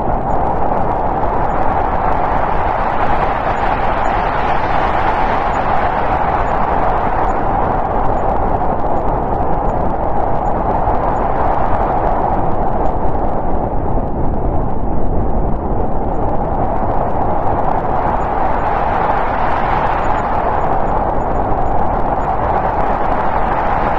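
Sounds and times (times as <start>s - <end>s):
snowstorm wind howling: 0.0s - 23.9s.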